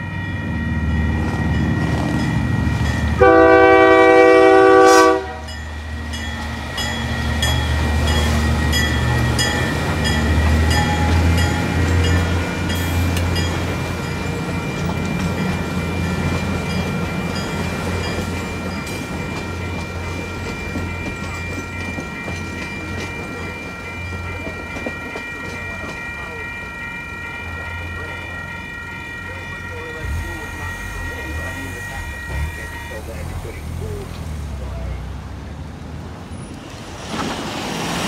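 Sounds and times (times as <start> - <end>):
crossing bells ringing: 0.0 - 35.6
locomotive engine rumbling: 0.0 - 38.0
wheels clattering on rails: 5.5 - 38.0.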